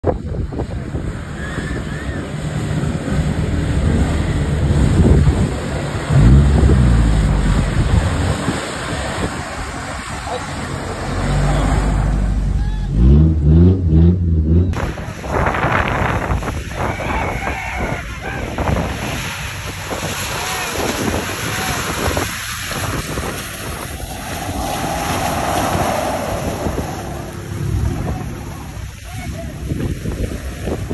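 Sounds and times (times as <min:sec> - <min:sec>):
wind buffeting microphone: 0:00.0 - 0:10.3, 0:14.7 - 0:30.9
truck churning through mud: 0:00.2 - 0:30.9
truck engine revving: 0:00.7 - 0:29.1.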